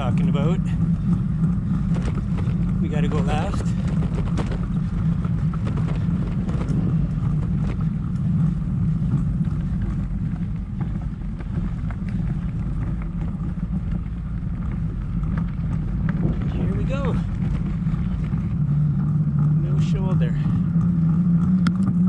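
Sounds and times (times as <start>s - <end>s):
bicycle rolling: 0.0s - 22.0s
wind buffeting microphone: 0.0s - 22.0s.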